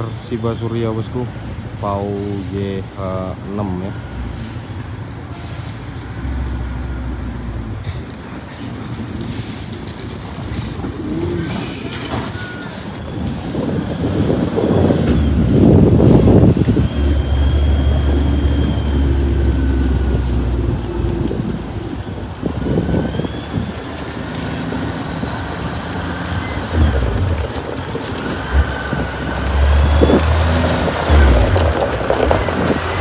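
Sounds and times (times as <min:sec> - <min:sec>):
truck diesel engine drone: 0:01.7 - 0:33.0.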